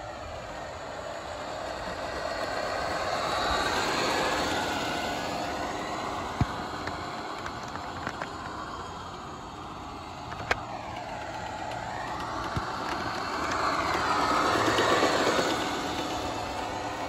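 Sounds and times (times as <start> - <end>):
toy truck motor whining: 0.0 - 17.0
tyres hissing on road: 0.0 - 17.0.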